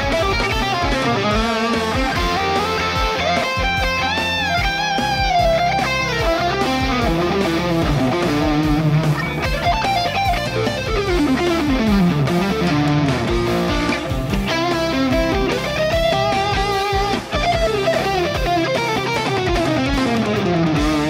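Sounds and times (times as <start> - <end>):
band backing with drums: 0.0 - 21.0
electric guitar solo: 0.0 - 21.0.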